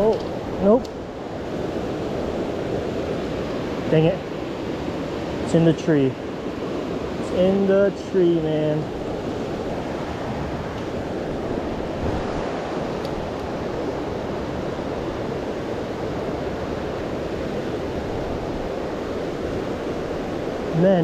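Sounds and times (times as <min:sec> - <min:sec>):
river rushing over boulders: 0:00.0 - 0:21.0.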